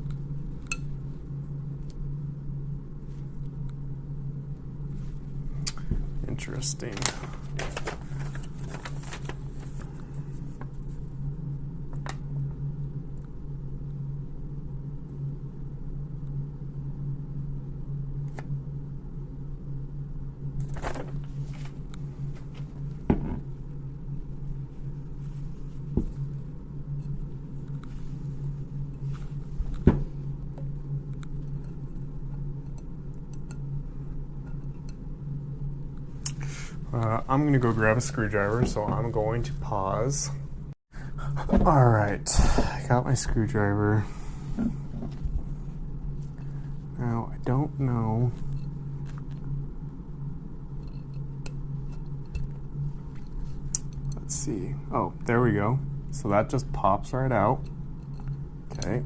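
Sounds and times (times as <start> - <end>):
low room hum: 0.0 - 59.0.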